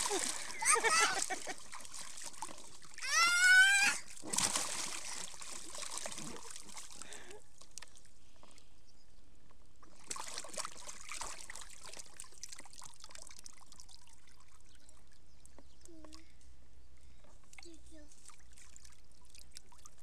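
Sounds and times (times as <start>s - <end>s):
water splashing in paddling pool: 0.0s - 8.2s, 9.8s - 15.5s, 17.4s - 20.0s.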